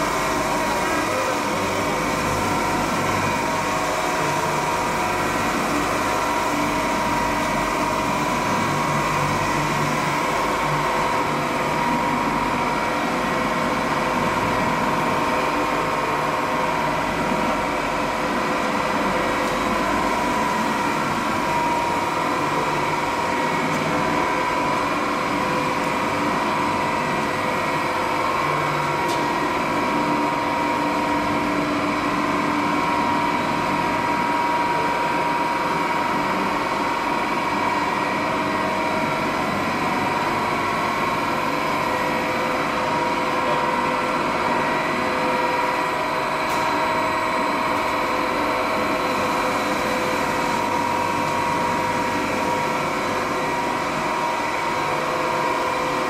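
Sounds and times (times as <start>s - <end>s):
machinery hum: 0.0s - 56.0s
steady high whine: 0.0s - 56.0s.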